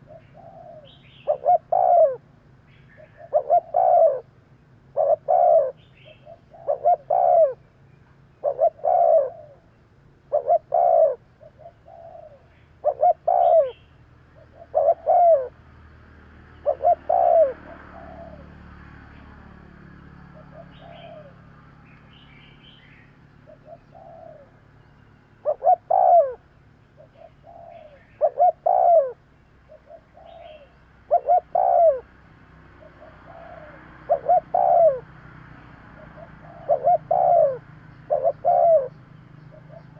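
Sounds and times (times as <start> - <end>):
dove cooing: 0.0 - 2.3, 2.9 - 7.6, 8.4 - 15.6, 16.5 - 19.5, 20.2 - 21.6, 23.4 - 39.9
small birds chirping: 0.0 - 4.3, 4.9 - 39.9.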